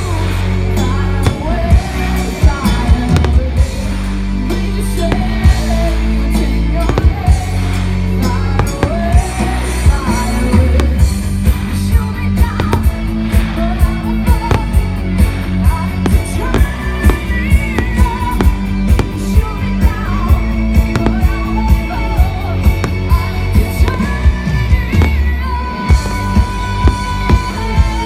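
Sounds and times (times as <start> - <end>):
loud rock music with singing: 0.0 - 28.0
fireworks bangs: 1.2 - 4.2, 5.0 - 28.0.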